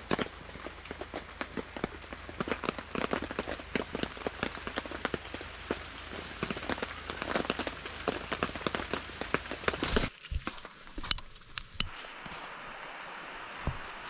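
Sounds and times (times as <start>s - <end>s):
raindrops pattering on surfaces: 0.0s - 14.0s.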